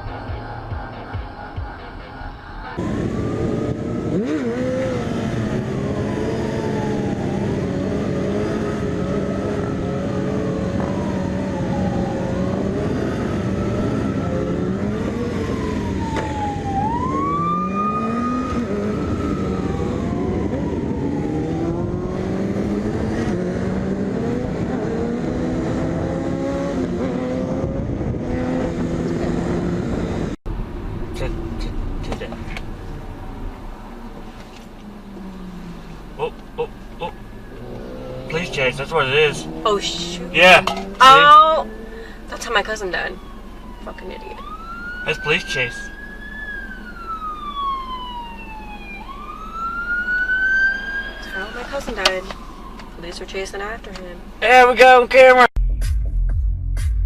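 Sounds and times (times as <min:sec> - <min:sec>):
siren wailing: 0:00.0 - 0:34.2, 0:34.8 - 0:54.8
car engine revving: 0:00.0 - 0:57.0.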